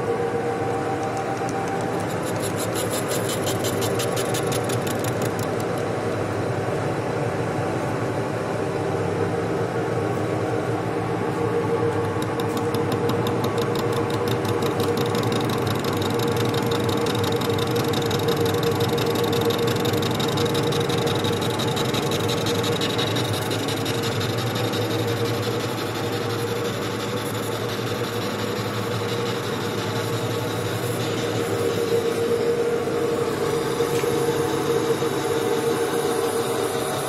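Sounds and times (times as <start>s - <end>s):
lathe machine hum: 0.0s - 37.0s.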